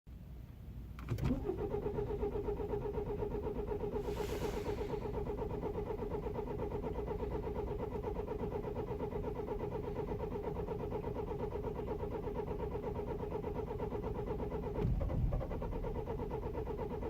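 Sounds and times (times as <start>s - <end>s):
starter motor cranking engine: 1.0s - 17.0s.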